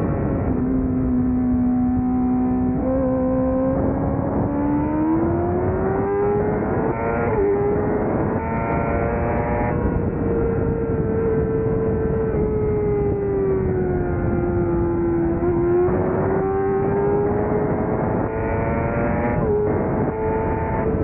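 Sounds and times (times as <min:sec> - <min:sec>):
motorcycle engine revving: 0:00.0 - 0:21.0
wind rush: 0:00.0 - 0:21.0.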